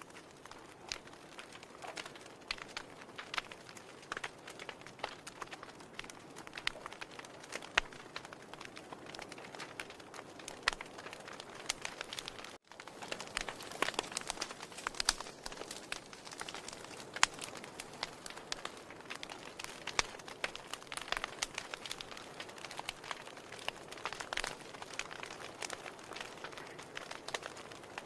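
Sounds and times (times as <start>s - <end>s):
logs crackling and popping: 0.0s - 28.0s.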